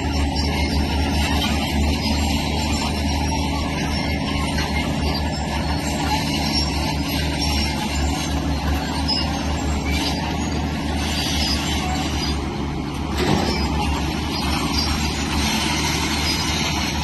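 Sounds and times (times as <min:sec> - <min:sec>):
diesel engine running under load: 0:00.0 - 0:17.0
high squeaks: 0:00.0 - 0:17.0.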